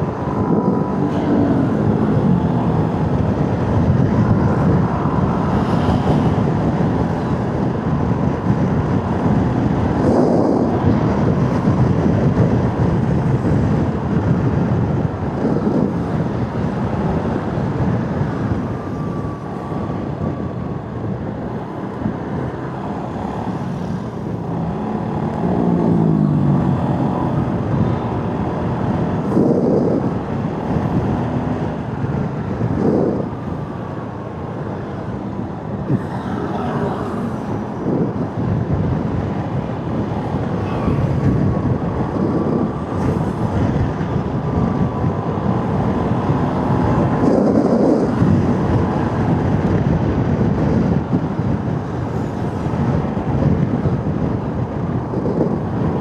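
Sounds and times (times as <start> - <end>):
road noise: 0.0 - 56.0
wind noise: 0.0 - 56.0.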